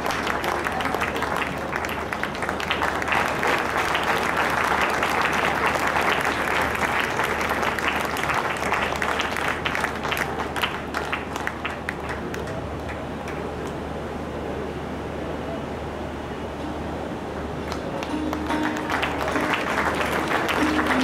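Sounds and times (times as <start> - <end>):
audience applause: 0.0 - 13.8, 17.6 - 21.0.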